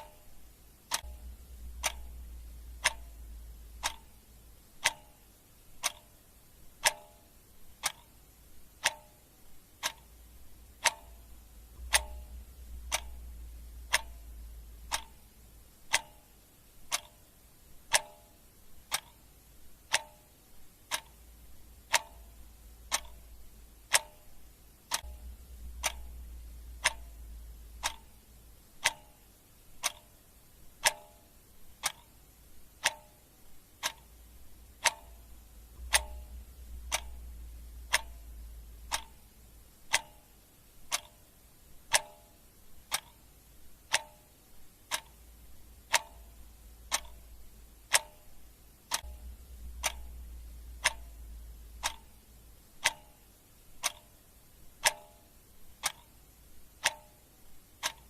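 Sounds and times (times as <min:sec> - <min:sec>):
clock ticking: 0:00.0 - 0:58.0
faint low hum: 0:00.0 - 0:58.0.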